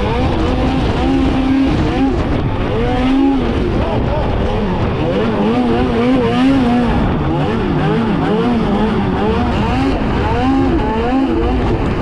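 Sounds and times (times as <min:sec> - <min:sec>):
snowmobile engine revving: 0:00.0 - 0:12.0
steady rush of noise: 0:00.0 - 0:12.0.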